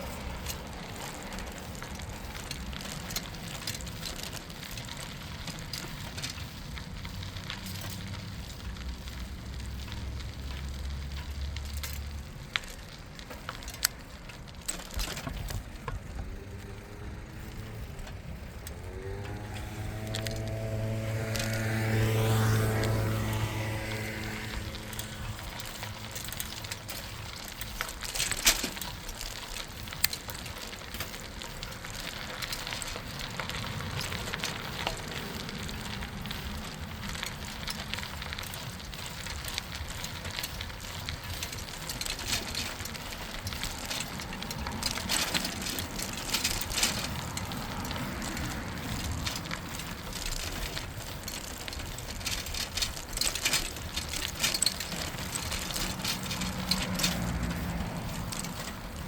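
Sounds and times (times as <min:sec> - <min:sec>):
bicycle tyres crunching on path: 0:00.0 - 0:59.0.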